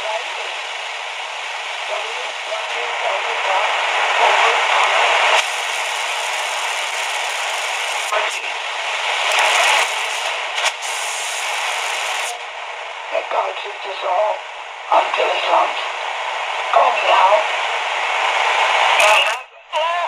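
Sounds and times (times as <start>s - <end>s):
radio crackles: 0.0s - 20.0s
radio static hissing: 0.0s - 20.0s.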